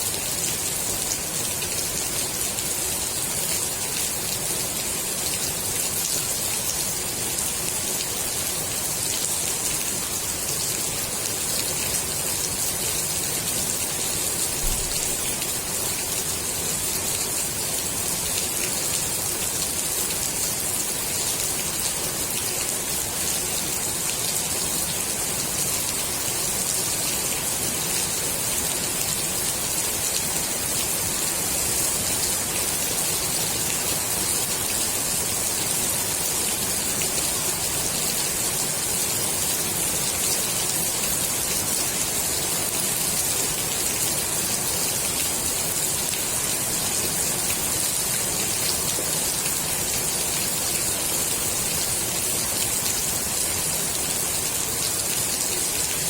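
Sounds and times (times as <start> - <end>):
rain falling on pool water: 0.0 - 56.0.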